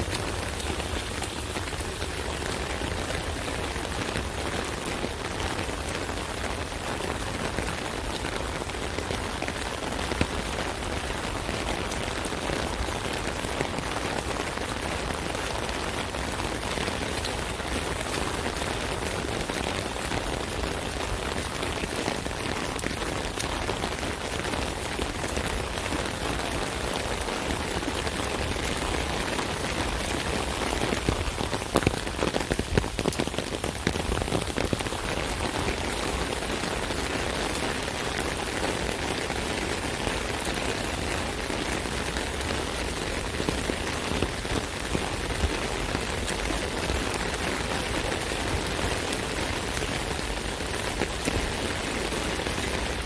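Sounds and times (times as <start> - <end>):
rain pattering on an umbrella: 0.0 - 53.0.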